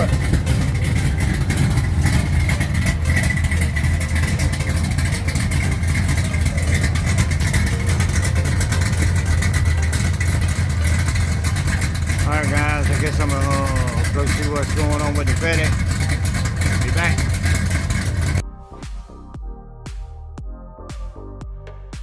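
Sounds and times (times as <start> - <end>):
engine idling: 0.0 - 18.4.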